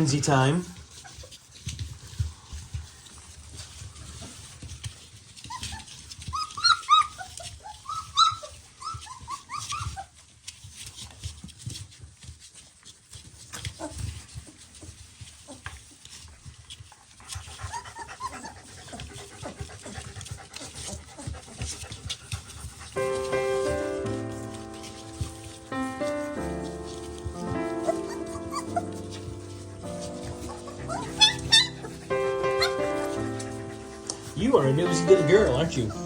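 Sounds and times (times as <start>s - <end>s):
puppies squeaking and whimpering: 0.0s - 11.8s, 13.0s - 36.0s.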